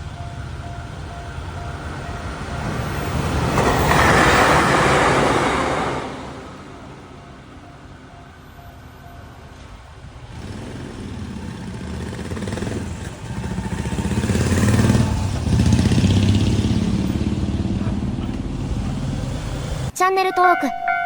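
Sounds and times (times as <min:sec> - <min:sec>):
electric train rumble and rail noise: 0:00.0 - 0:20.0.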